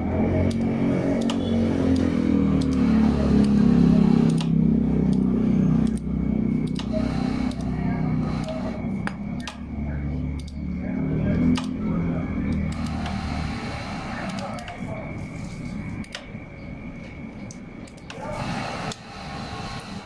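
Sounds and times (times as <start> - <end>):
steady low hum and murmur: 0.0 - 20.0.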